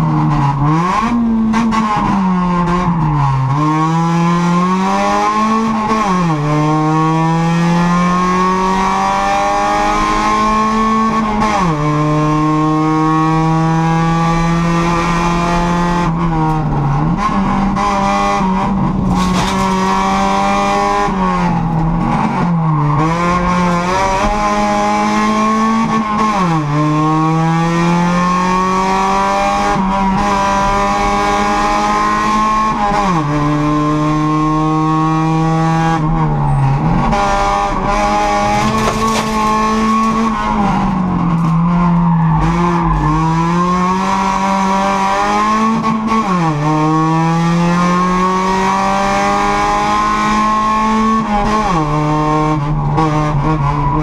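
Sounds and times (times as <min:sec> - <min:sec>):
race car engine revving: 0:00.1 - 0:54.0.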